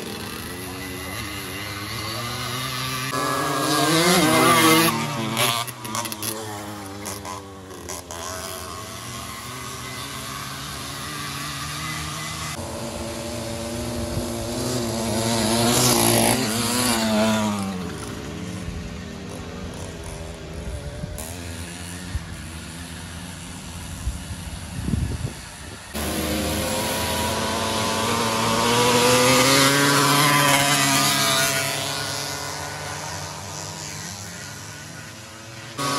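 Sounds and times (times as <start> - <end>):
engines passing by: 0.0 - 35.9
two-stroke engines droning: 0.0 - 35.9.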